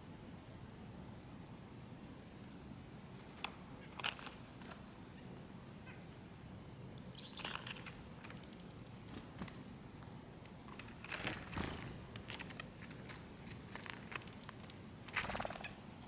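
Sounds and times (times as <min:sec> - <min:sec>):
songbirds chirping: 0:02.0 - 0:16.0.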